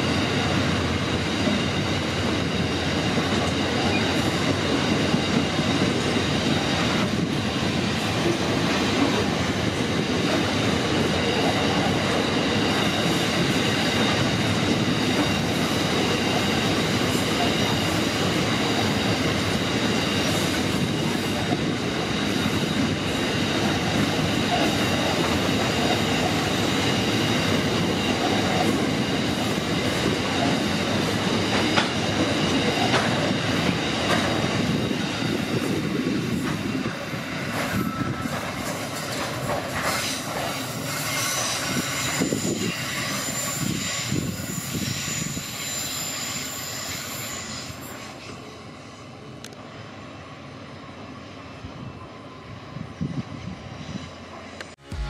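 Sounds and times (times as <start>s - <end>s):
train wheels rumbling on rails: 0.0s - 51.2s.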